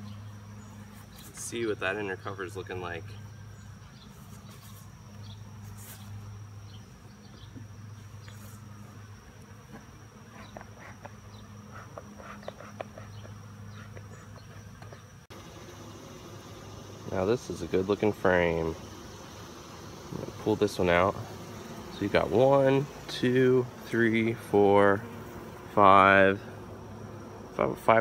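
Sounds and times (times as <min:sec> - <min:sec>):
bees humming: 0:00.0 - 0:28.0.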